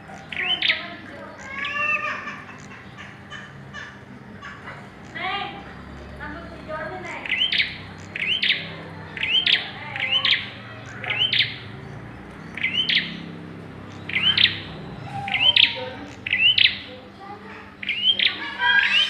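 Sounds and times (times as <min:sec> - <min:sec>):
prinia bird chirping: 0:00.0 - 0:19.0.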